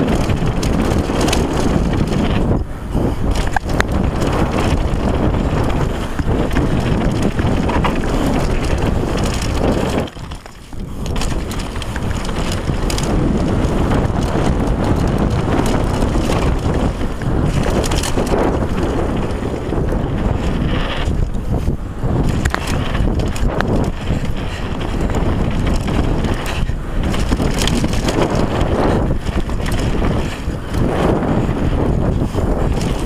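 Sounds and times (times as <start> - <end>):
bike tyre noise on dirt: 0.0 - 33.0
mountain bike rattle: 0.0 - 33.0
wind buffeting microphone: 0.0 - 33.0.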